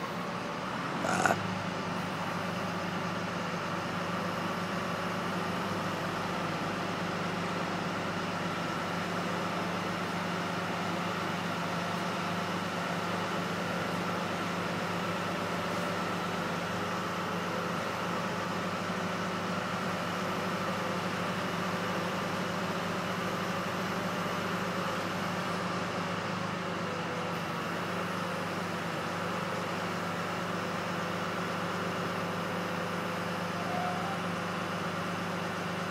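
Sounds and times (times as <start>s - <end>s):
truck engines idling: 0.0s - 35.9s.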